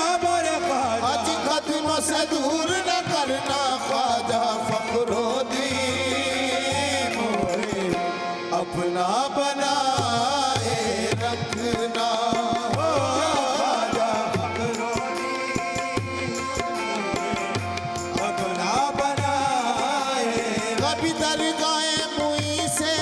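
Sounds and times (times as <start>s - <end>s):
harmonium chords: 0.0s - 23.0s
man singing ornamented line: 0.0s - 23.0s
tabla beat: 0.0s - 23.0s.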